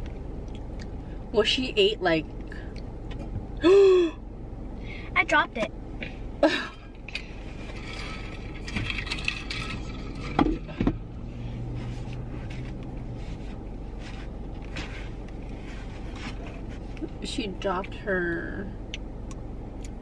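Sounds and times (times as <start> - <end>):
low hum in car cabin: 0.0 - 20.0.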